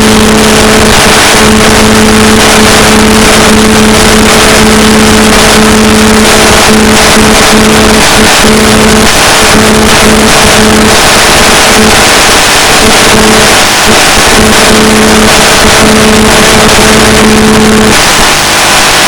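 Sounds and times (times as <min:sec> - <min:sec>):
interference buzz: 0:00.0 - 0:19.0
loud static hiss: 0:00.0 - 0:19.0.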